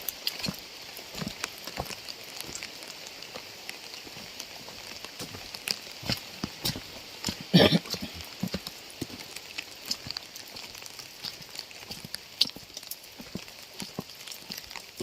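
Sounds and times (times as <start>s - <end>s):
rain hissing: 0.0s - 15.0s
raindrops tapping on a surface: 0.0s - 15.0s.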